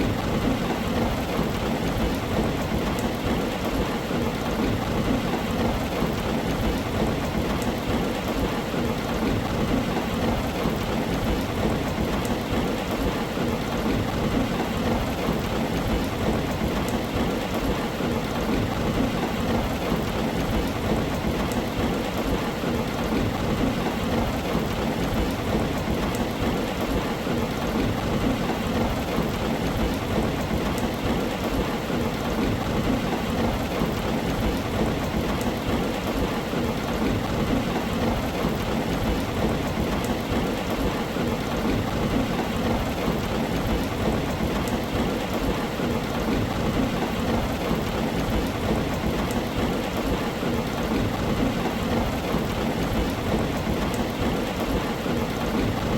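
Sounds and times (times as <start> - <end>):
heavy rain on a tin roof: 0.0 - 55.9.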